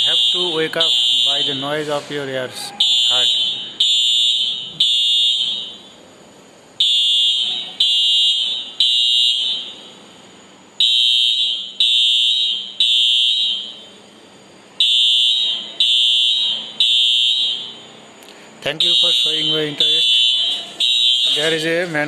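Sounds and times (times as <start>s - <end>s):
fire alarm electronic tones: 0.0s - 1.8s, 2.6s - 6.0s, 6.8s - 10.1s, 10.8s - 14.0s, 14.8s - 18.0s, 18.7s - 21.7s.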